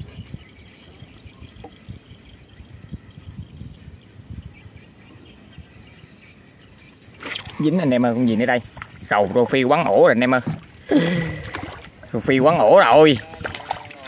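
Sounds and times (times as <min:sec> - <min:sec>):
faint birds chirping: 0:00.0 - 0:13.9.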